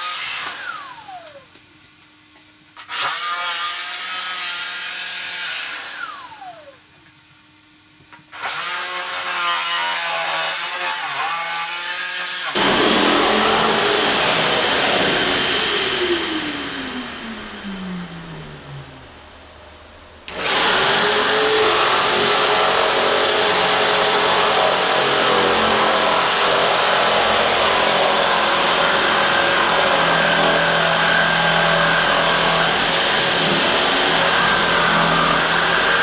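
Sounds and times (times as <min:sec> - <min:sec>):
power tool cutting wood: 0:00.0 - 0:01.4, 0:02.8 - 0:06.8, 0:08.3 - 0:19.0, 0:20.3 - 0:36.0.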